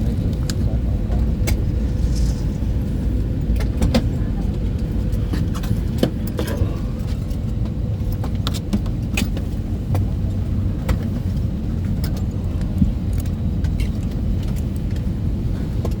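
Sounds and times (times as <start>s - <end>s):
low rumble in aircraft cabin: 0.0s - 16.0s.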